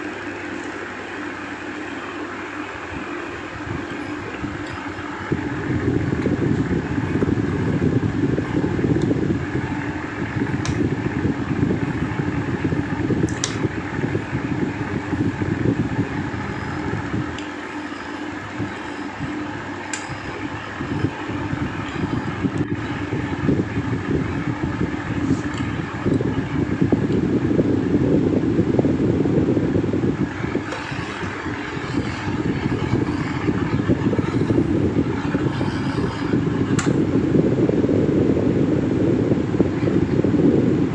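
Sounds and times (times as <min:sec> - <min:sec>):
faint steady hum: 0:00.0 - 0:40.9
fan air rushing on microphone: 0:00.0 - 0:40.9.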